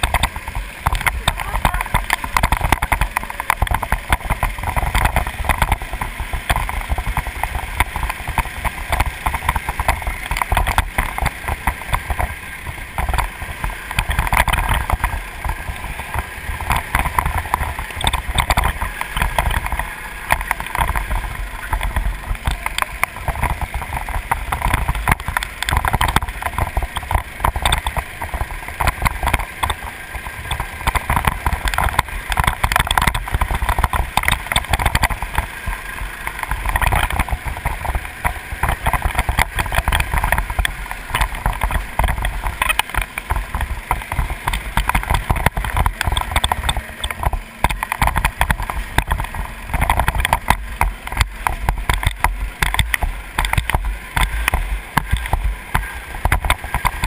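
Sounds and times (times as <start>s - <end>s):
go-kart engine running hard: 0.0s - 57.0s
wind rumbling on microphone: 0.0s - 57.0s.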